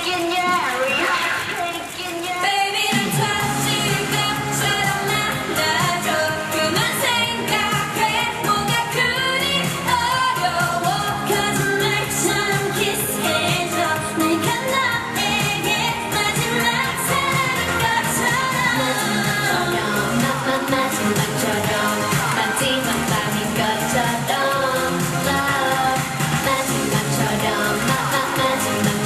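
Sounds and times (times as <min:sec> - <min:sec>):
pop song with sung vocals: 0:00.0 - 0:29.0.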